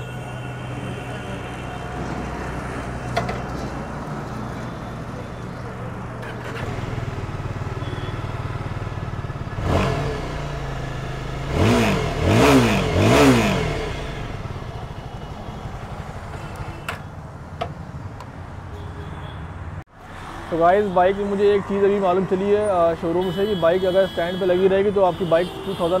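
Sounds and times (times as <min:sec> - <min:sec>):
motorcycle engine idling and revving: 0:01.6 - 0:23.8.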